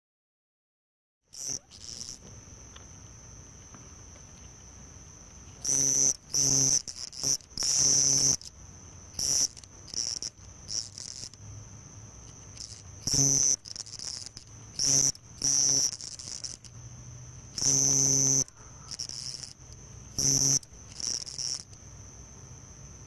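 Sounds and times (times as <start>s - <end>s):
crickets trilling: 1.3s - 23.0s
loud cricket chirp bursts: 1.3s - 23.0s.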